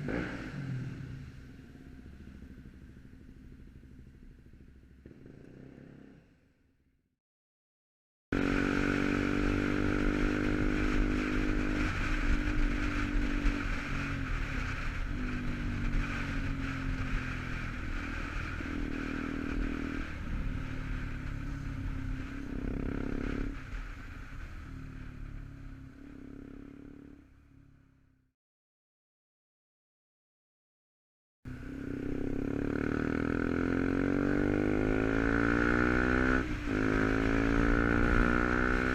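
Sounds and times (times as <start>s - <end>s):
motorcycle engine running: 0.0s - 6.9s, 8.4s - 28.1s, 31.5s - 38.9s.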